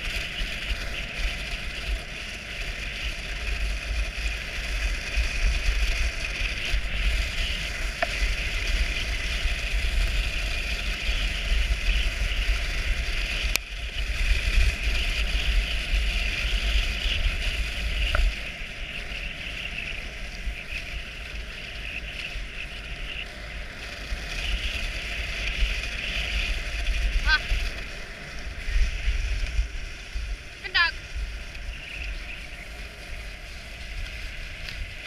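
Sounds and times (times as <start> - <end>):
sled runners and paws on snow: 0.0 - 35.0
wind rumble on microphone: 0.0 - 35.0.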